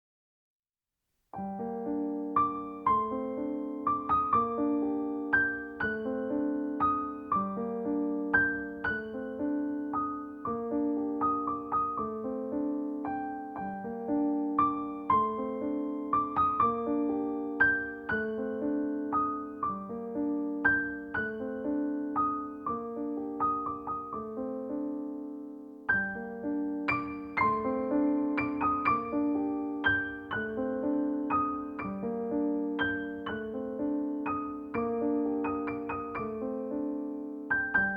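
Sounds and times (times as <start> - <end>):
gentle piano arpeggios: 1.4 - 37.9.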